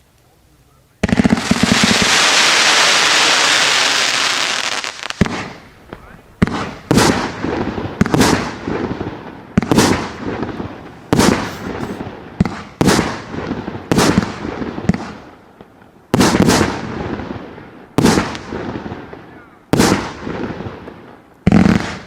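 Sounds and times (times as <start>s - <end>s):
fireworks bangs with crackling: 1.0s - 22.0s.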